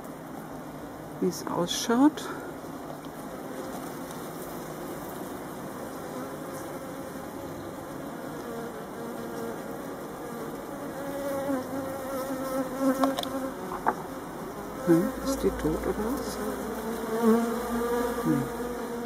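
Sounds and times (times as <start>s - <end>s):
honeybees buzzing: 0.2s - 19.0s.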